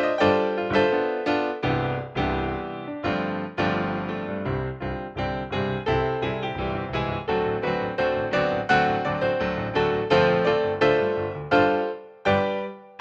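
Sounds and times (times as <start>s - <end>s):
piano single notes: 0.0s - 13.0s.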